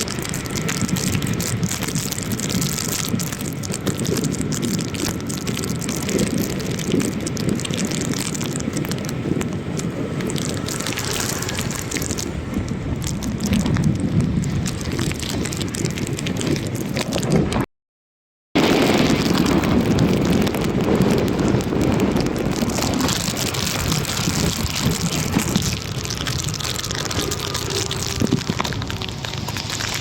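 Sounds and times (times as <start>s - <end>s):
steady rushing noise: 0.0s - 17.6s, 18.6s - 30.0s
low rumbling: 0.0s - 17.7s, 18.6s - 30.0s.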